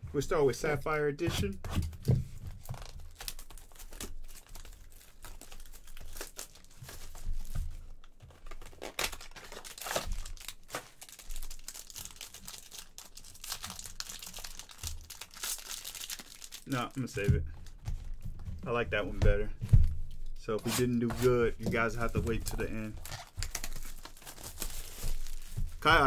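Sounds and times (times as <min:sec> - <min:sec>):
foil crinkling: 0:02.5 - 0:19.1, 0:19.7 - 0:26.0.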